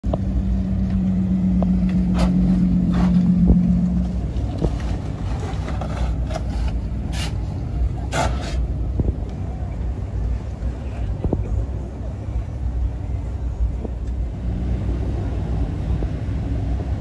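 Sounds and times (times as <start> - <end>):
car engines rumbling: 0.0 - 17.0
steady drone: 0.0 - 17.0.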